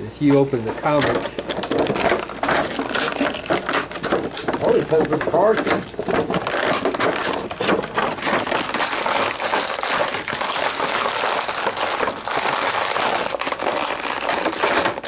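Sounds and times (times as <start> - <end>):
packaging rustling and crinkling: 0.3 - 15.0.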